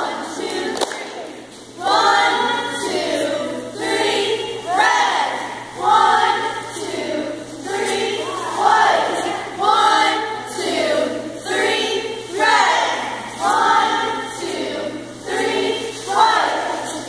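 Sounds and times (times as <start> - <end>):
cheerleaders chanting in unison: 0.0 - 17.0.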